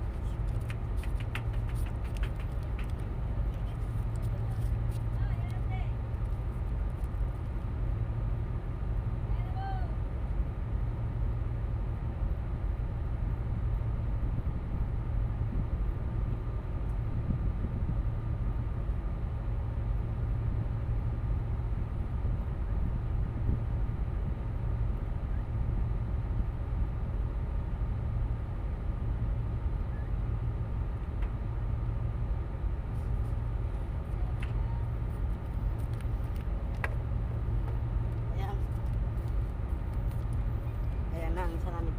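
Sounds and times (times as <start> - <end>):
boat diesel engine drone: 0.0 - 41.9
faint steady whine: 2.5 - 41.9.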